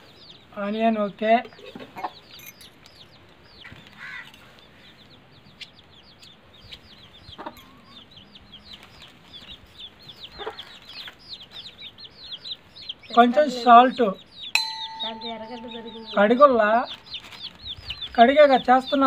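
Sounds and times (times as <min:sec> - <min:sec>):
chicks peeping: 0:00.0 - 0:19.0
chickens clucking: 0:01.4 - 0:19.0.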